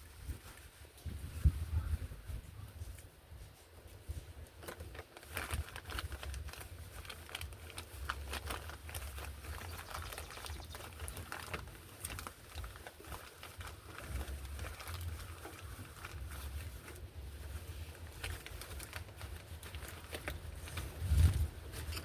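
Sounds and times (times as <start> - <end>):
low uneven rumble: 0.0 - 22.0.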